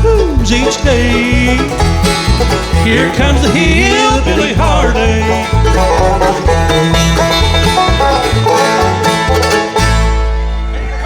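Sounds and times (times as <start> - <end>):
banjo picking: 0.0 - 11.0
guitar playing: 0.0 - 11.0.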